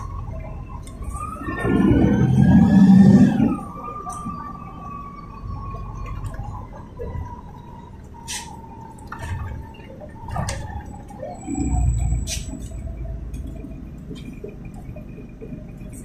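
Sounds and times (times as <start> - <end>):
rattles and clicks of bus body: 0.0 - 2.1, 3.2 - 16.0
bus engine and road rumble: 0.0 - 16.0.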